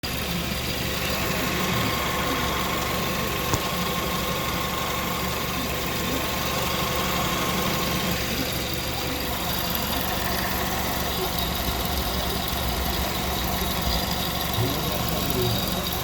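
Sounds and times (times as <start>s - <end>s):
car engine idling: 0.0s - 16.0s
drive belt squealing: 0.0s - 16.0s.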